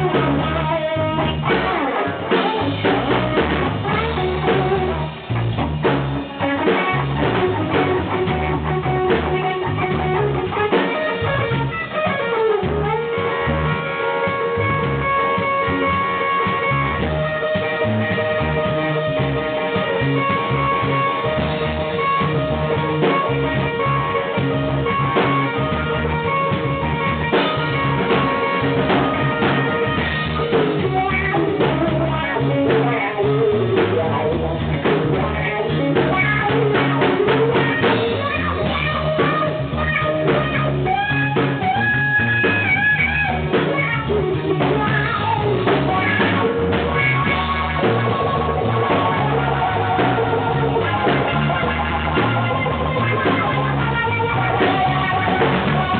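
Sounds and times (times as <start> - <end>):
blues band playing: 0.0 - 55.9.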